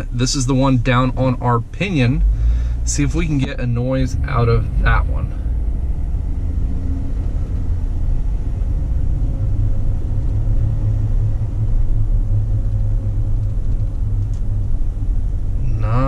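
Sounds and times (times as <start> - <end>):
road and bearing noise: 0.0 - 16.0
vehicle driving rumble: 0.0 - 16.0.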